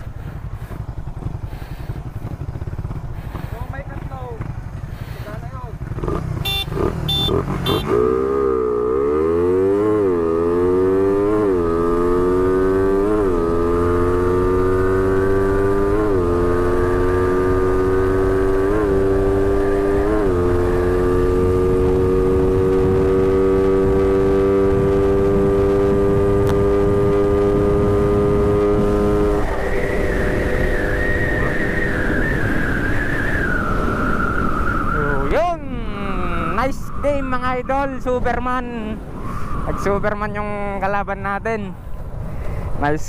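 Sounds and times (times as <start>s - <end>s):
motorcycle engine at full throttle: 0.0s - 36.6s.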